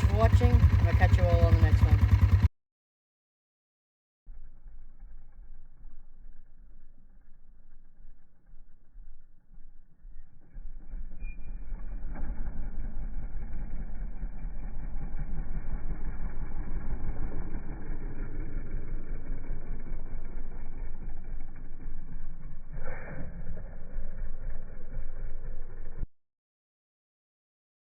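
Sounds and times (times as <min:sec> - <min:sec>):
motorcycle engine idling: 0:00.0 - 0:02.5, 0:04.3 - 0:26.1.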